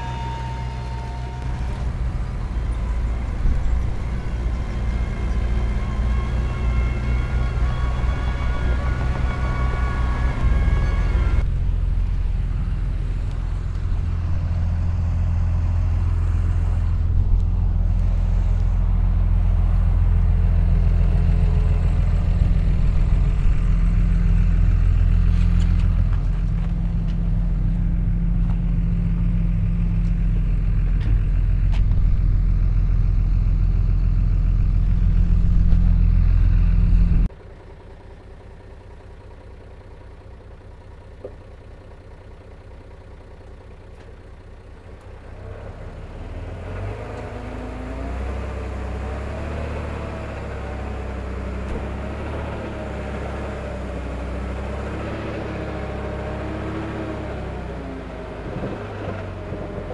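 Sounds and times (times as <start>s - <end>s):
heavy diesel machinery engine drone: 0.0s - 59.9s.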